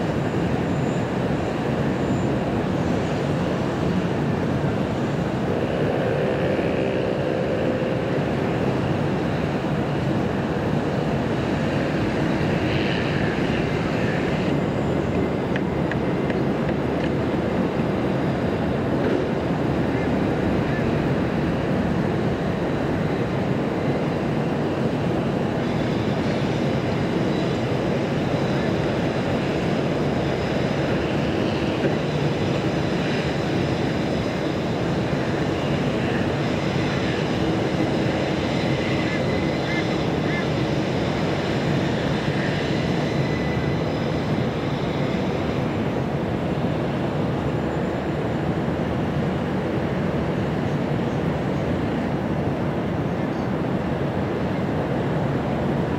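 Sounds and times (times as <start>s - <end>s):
distant city traffic: 0.0s - 55.9s
electric trains rumbling: 0.0s - 55.9s.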